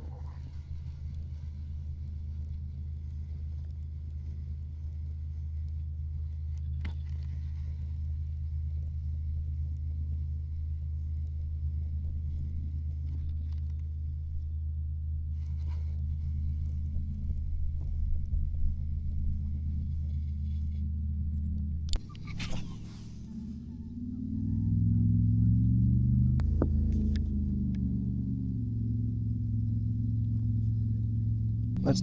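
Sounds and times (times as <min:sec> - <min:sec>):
low motor rumble: 0:00.0 - 0:32.0.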